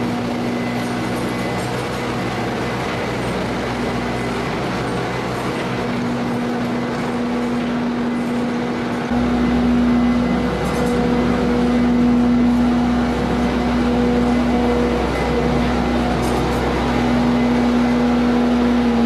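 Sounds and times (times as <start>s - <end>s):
farm machinery engine humming: 0.0s - 19.0s.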